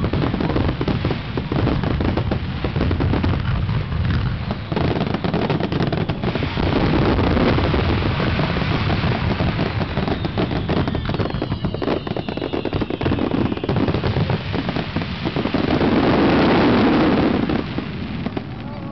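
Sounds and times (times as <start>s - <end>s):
fireworks bursting and crackling: 0.0s - 18.9s
rumble of fireworks booms: 0.0s - 18.9s.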